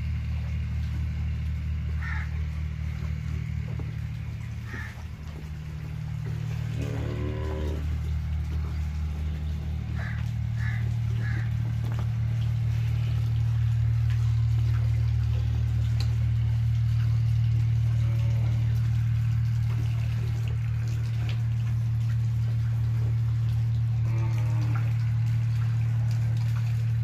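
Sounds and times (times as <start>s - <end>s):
motor humming: 0.0s - 27.0s.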